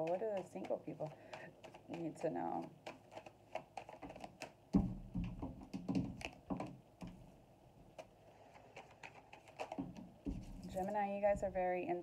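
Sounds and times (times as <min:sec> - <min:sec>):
cards being shuffled: 0:00.0 - 0:07.2, 0:07.9 - 0:10.9.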